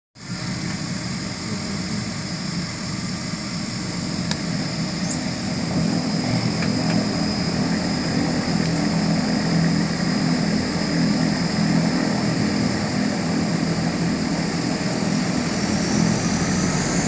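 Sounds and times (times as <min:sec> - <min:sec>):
high turbine whine: 0:00.2 - 0:17.0
turboprop engine drone: 0:00.2 - 0:17.0.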